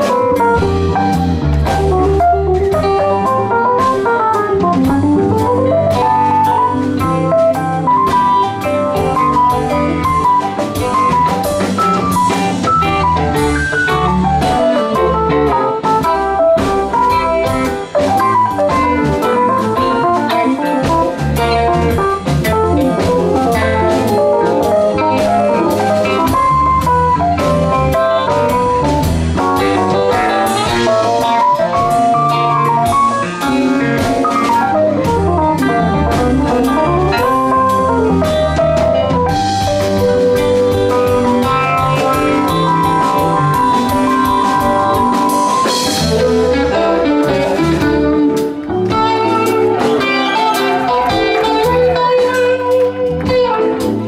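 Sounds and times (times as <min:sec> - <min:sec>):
drum kit: 0:00.0 - 0:54.0
electric bass: 0:00.0 - 0:54.0
keyboards: 0:00.0 - 0:54.0
melodic lead lines: 0:00.0 - 0:54.0.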